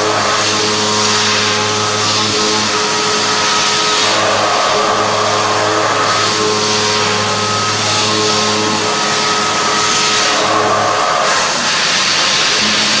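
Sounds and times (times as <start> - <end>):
milling machine cutting metal: 0.0 - 13.0.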